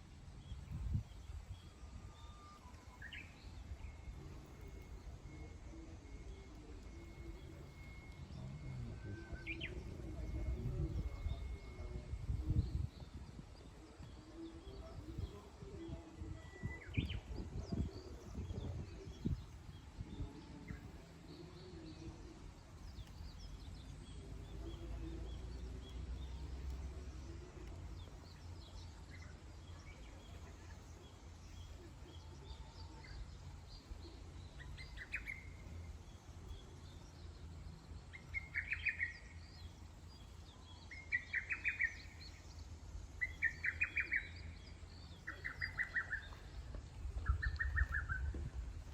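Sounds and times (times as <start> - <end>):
low outdoor rumble: 0.0 - 48.9
songbirds chirping: 0.0 - 48.9.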